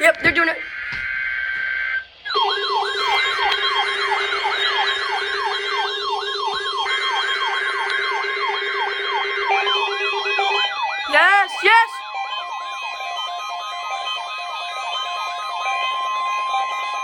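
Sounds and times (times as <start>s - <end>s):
siren-like wail: 0.0s - 17.0s
steady alarm tone: 0.0s - 17.0s.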